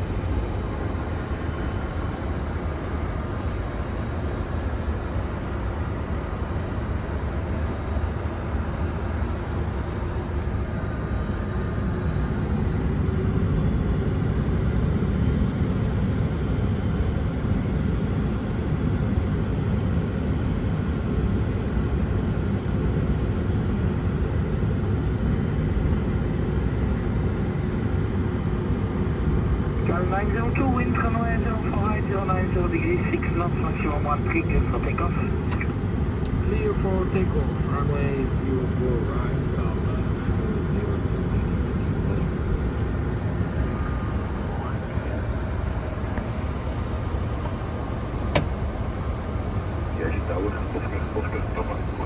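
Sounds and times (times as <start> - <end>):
faint steady whining tones: 0.0 - 52.0
jet engines low rumble: 0.0 - 52.0.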